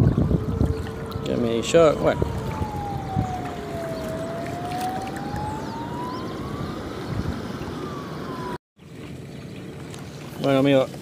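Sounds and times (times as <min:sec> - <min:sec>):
motorboat engine droning: 0:00.0 - 0:10.4
water noise: 0:00.0 - 0:11.0
wind: 0:00.0 - 0:11.0.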